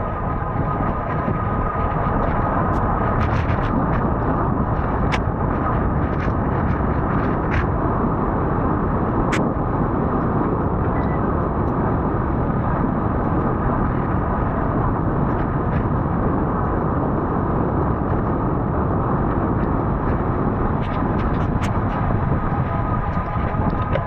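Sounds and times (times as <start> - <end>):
loud rumbling noise: 0.0 - 10.0, 11.9 - 24.0.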